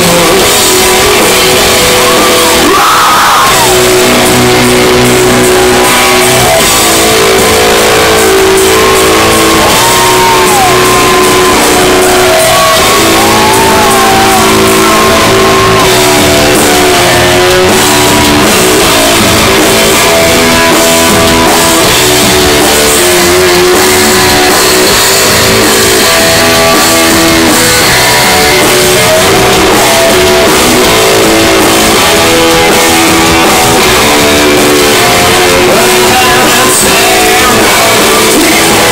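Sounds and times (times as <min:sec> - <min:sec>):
drums: 0:00.0 - 0:38.9
electric guitar: 0:00.0 - 0:38.9
rock band playing live: 0:00.0 - 0:38.9.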